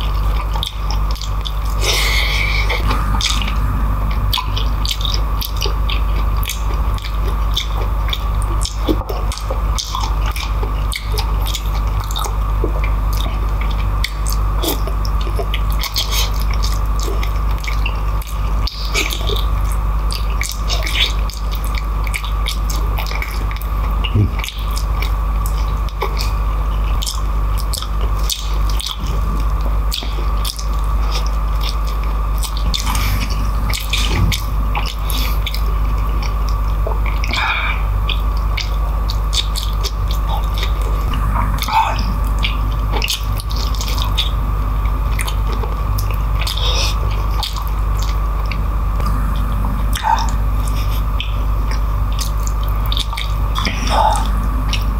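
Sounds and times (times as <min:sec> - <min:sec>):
wet chewing and lip-smacking: 0:00.0 - 0:02.8, 0:06.2 - 0:49.2, 0:49.9 - 0:54.9
steady background hum: 0:00.0 - 0:54.9.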